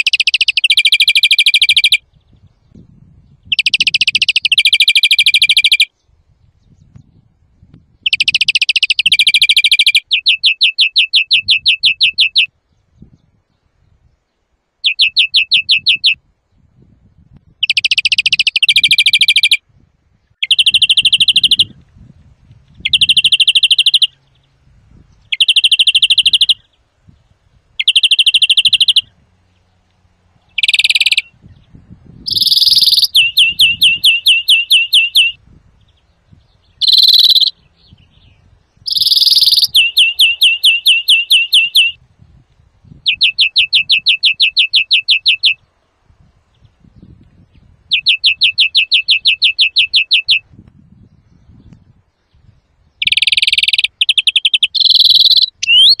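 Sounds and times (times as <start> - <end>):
bird singing trilled notes: 0.0 - 21.8, 22.5 - 42.1, 42.8 - 56.0.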